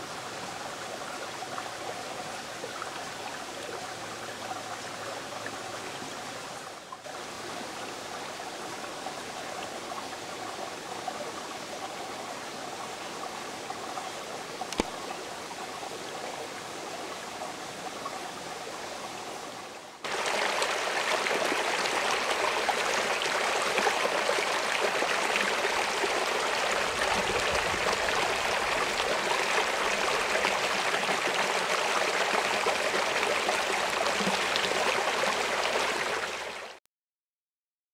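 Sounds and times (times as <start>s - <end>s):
creek flowing over rocks: 0.0s - 36.8s.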